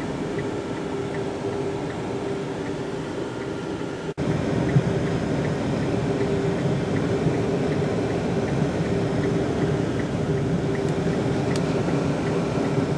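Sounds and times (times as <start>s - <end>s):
faint ticking: 0.0s - 3.6s, 4.6s - 12.9s
car engine hum: 0.0s - 12.9s
road noise: 0.0s - 12.9s.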